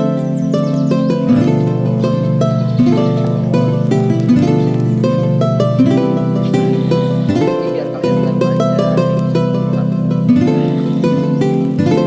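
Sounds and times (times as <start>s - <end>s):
plucked harp-like strings: 0.0s - 12.0s.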